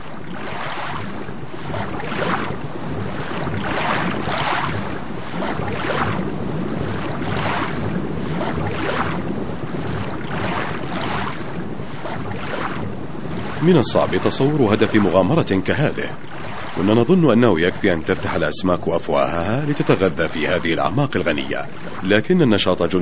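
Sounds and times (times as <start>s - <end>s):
rushing water in surges: 0.0s - 23.0s.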